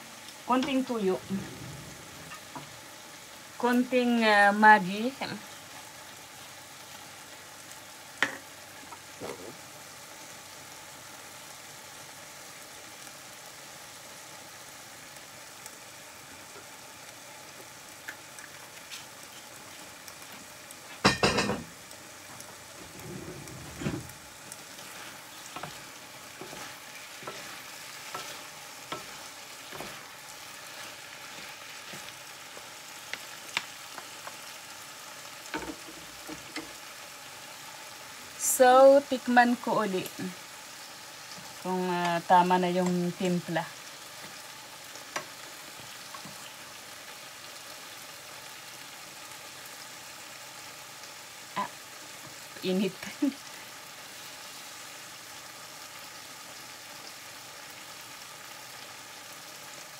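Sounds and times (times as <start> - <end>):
vegetables sizzling in a frying pan: 0.0 - 59.9.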